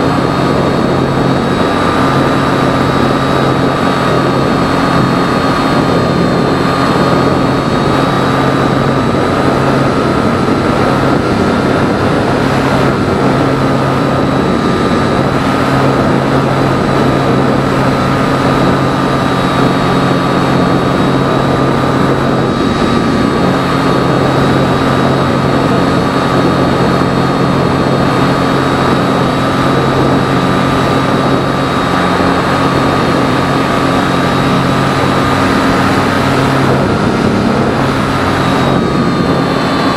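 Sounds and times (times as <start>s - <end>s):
electric motor and propeller whine: 0.0s - 39.9s
rush of air: 0.0s - 39.9s.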